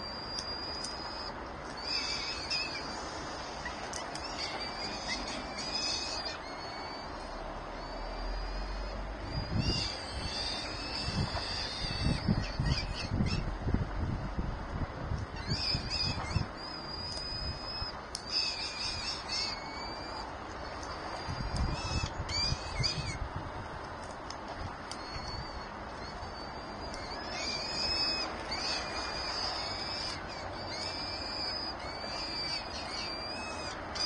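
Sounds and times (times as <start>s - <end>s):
birds chirping: 0.0s - 13.5s, 15.4s - 23.2s, 24.5s - 34.0s.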